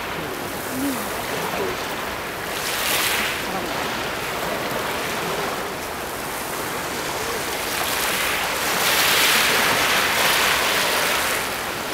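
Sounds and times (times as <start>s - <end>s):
sea waves breaking on rocks: 0.0s - 11.9s.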